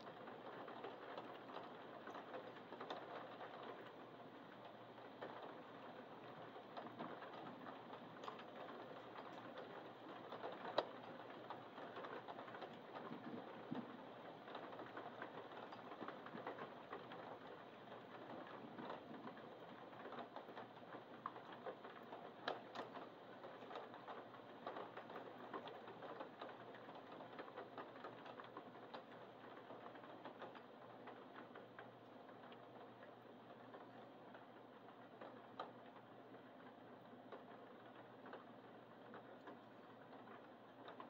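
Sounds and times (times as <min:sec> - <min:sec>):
rain falling: 0:00.0 - 0:41.0.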